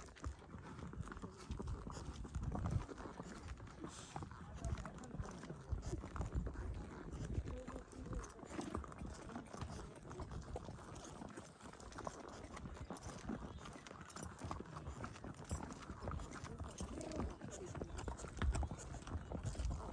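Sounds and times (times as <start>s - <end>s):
horse hooves clip-clopping: 0.0s - 19.9s.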